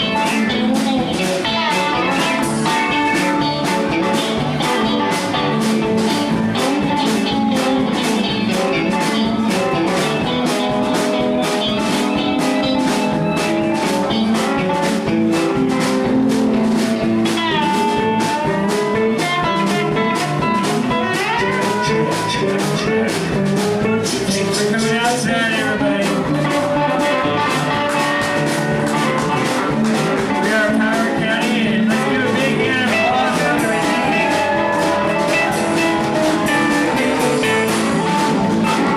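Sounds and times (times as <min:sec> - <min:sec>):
lead guitar with bent notes: 0:00.0 - 0:38.9
live blues band playing: 0:00.0 - 0:38.9.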